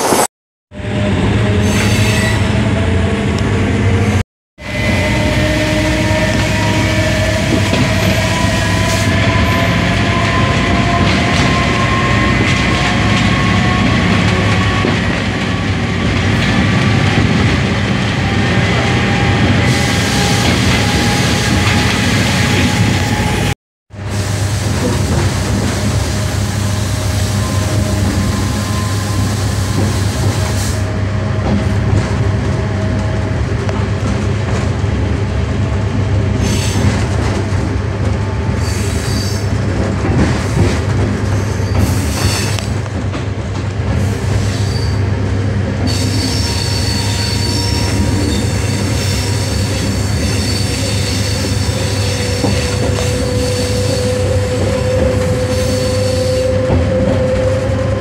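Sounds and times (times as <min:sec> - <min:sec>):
train engine drone: 0:00.0 - 0:58.0
wheels squealing on rails: 0:00.8 - 0:02.8, 0:04.6 - 0:32.4, 0:36.4 - 0:37.7, 0:38.5 - 0:42.8, 0:43.9 - 0:58.0.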